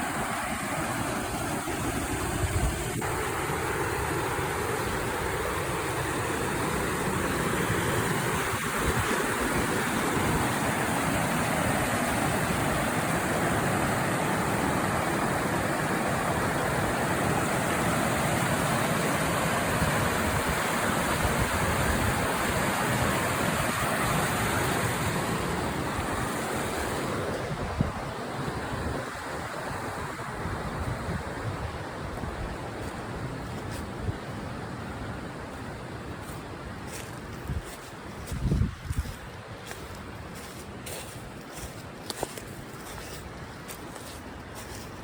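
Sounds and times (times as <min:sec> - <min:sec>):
water rushing over rocks: 0:00.0 - 0:38.2.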